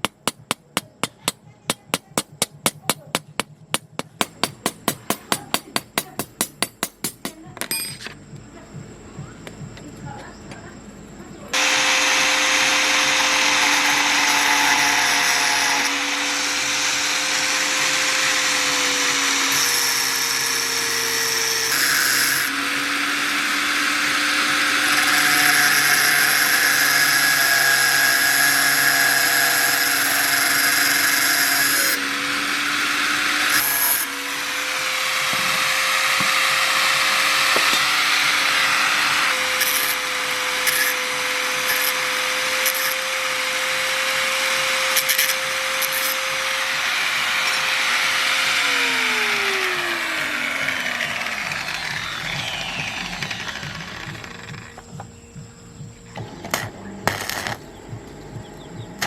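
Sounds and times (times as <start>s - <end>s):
power tool motor running: 11.5s - 59.0s.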